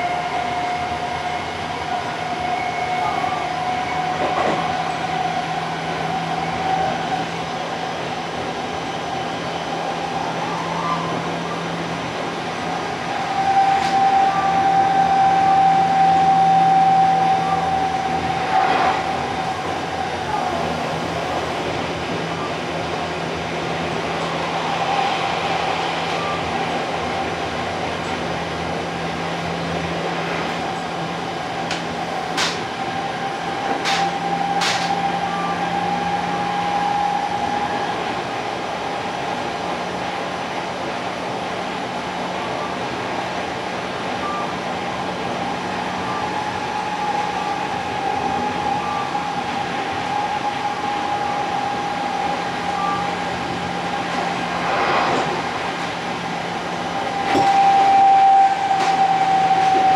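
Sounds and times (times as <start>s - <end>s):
train rumble with whine: 0.0s - 59.9s.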